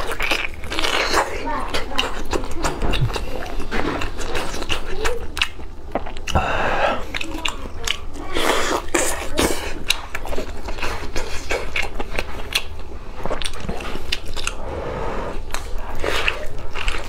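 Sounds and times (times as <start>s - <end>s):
wet chewing and smacking: 0.0s - 6.4s, 7.0s - 14.6s, 15.4s - 17.0s.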